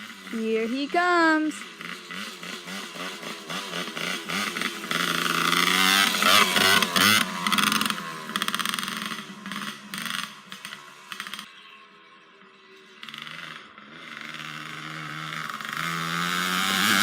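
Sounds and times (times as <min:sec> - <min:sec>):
atv engine revving past: 0:00.0 - 0:17.0.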